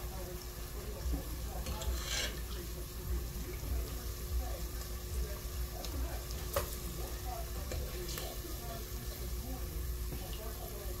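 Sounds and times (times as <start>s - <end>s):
onion rings sizzling in oil: 0.0s - 11.0s.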